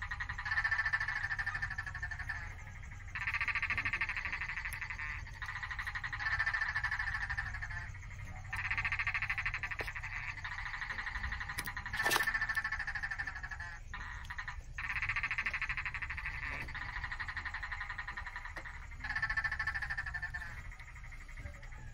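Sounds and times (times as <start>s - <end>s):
frogs calling in pulsed trills: 0.0s - 21.9s.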